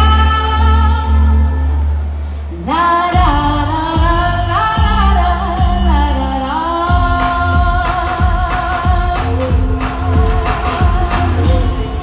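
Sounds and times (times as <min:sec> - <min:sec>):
woman singing: 0:00.0 - 0:01.7, 0:02.5 - 0:12.0
live pop band playing: 0:00.0 - 0:12.0.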